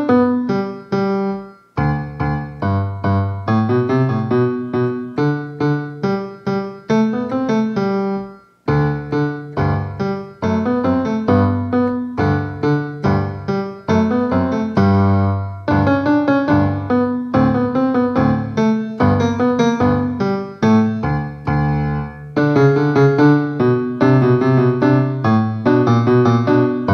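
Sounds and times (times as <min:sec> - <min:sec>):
piano music: 0:00.0 - 0:26.9.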